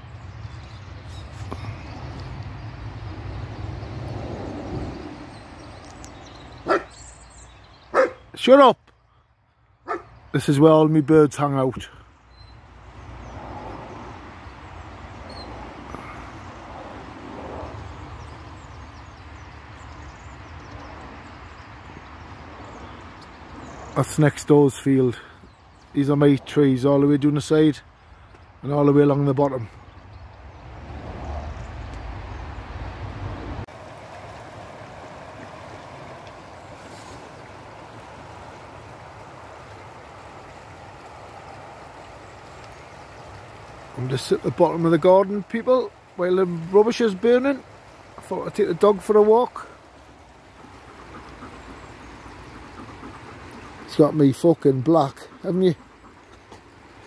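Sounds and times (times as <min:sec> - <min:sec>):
flowing water rushing: 0:01.1 - 0:08.8, 0:12.5 - 0:57.0.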